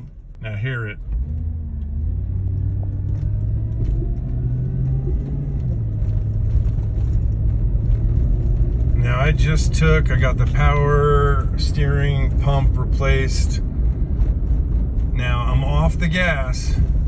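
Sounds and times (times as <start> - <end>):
car engine droning under throttle: 0.0 - 17.0.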